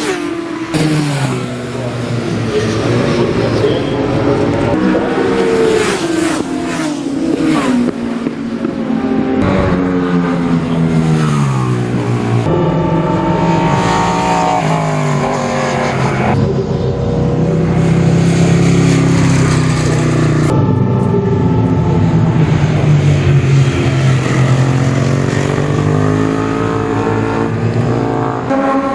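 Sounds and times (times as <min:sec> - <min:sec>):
racing motorcycles passing: 0:00.0 - 0:28.9.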